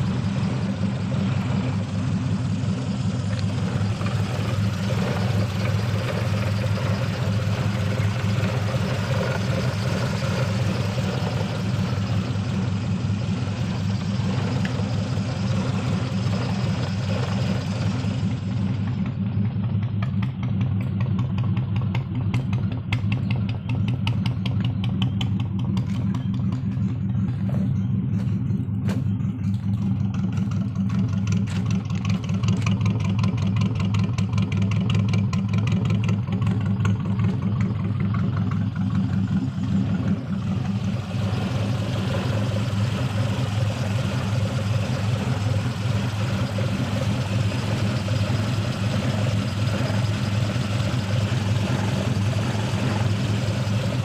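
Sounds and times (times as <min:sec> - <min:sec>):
motorcycle idling: 0:00.0 - 0:54.0.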